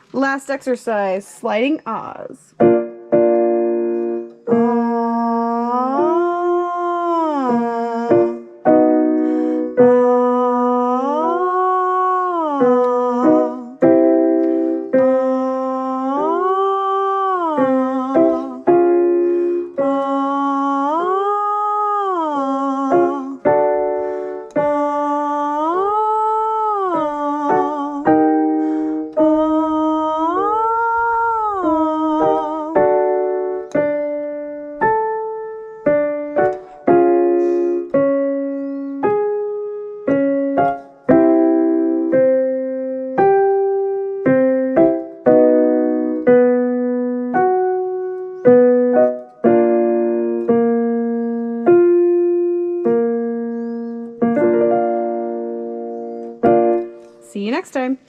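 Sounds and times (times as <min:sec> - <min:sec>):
piano chords: 0:00.0 - 0:58.0.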